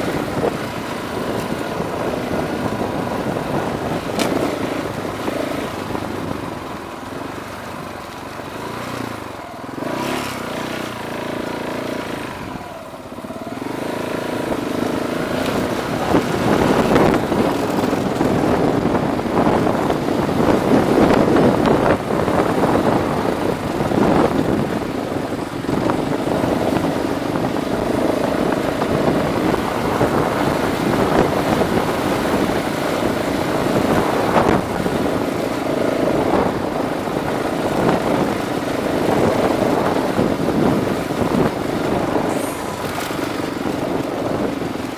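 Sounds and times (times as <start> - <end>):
tyres rumbling over dirt: 0.0 - 44.9
vehicle engine running: 0.0 - 44.9.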